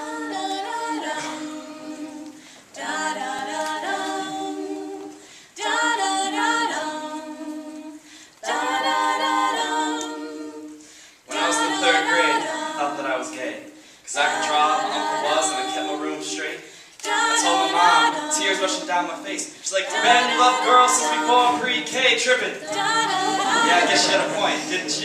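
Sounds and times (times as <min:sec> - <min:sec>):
vocal group singing chords: 0:00.0 - 0:25.0.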